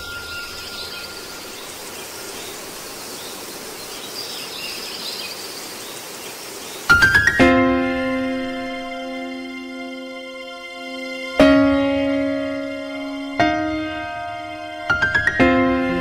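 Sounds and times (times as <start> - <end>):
birds chirping: 0.0 - 16.0
insects chirping: 0.0 - 16.0.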